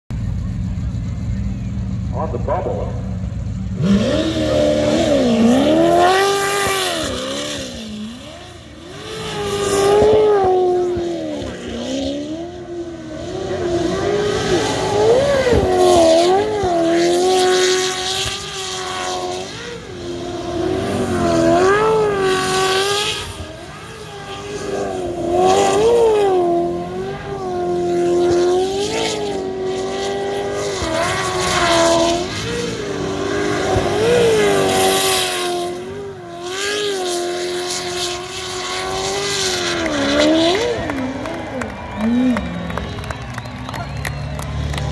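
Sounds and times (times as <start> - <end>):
boat engine running at high revs: 0.2 - 44.9.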